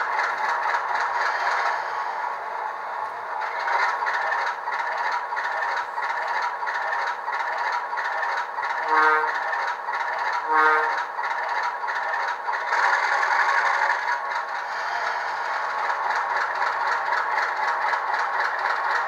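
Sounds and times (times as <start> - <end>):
diesel engine through small speaker: 0.0 - 19.0.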